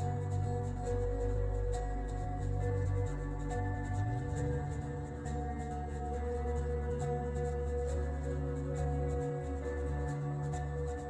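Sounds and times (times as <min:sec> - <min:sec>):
ambient synth music: 0:00.0 - 0:11.0.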